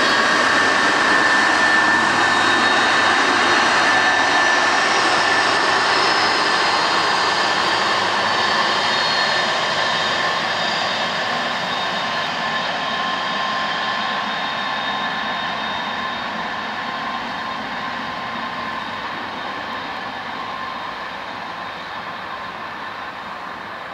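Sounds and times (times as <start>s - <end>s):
jet aircraft taxiing whine: 0.0s - 23.9s.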